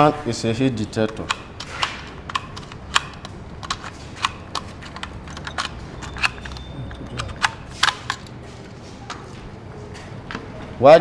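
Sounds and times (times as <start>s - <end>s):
faint low hum: 0.0s - 11.0s
sharp clicks and knocks: 0.7s - 10.6s.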